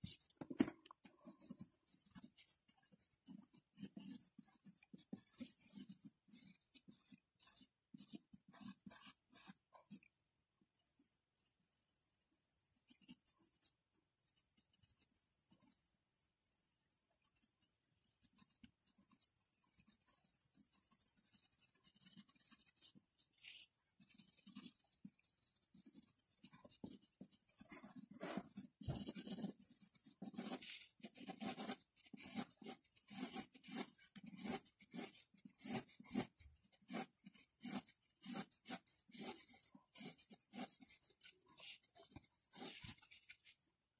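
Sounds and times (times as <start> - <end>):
pencil scratching on paper: 1.2 - 10.1, 11.0 - 43.6.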